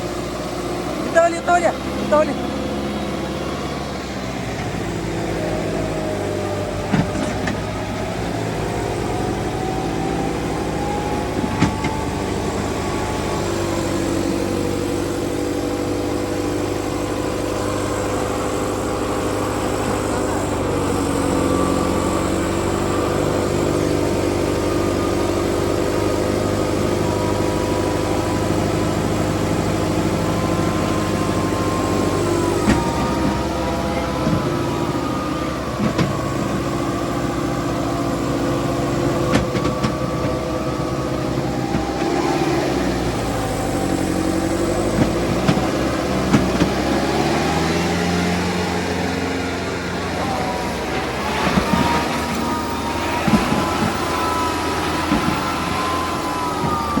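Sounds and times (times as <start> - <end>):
tractor diesel engines under load: 0.0 - 57.0.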